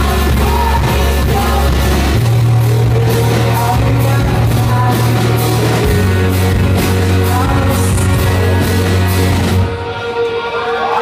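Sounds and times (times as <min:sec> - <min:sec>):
live rock song: 0:00.0 - 0:11.0
person singing: 0:00.0 - 0:11.0.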